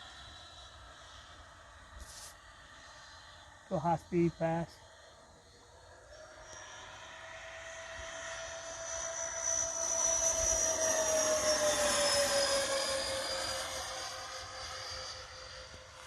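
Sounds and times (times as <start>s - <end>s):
model jet fan whine passing: 0.0s - 16.0s.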